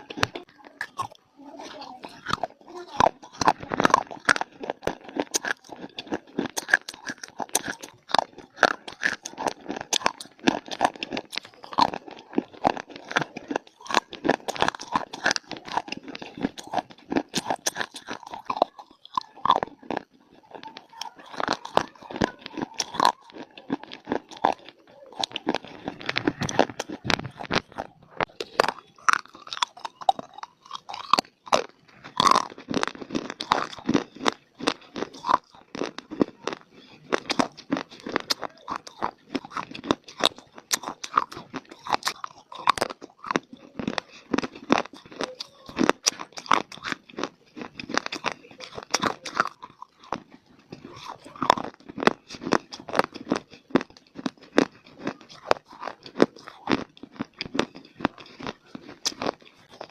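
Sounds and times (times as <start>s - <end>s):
crunching and chewing clay: 0.0s - 59.9s.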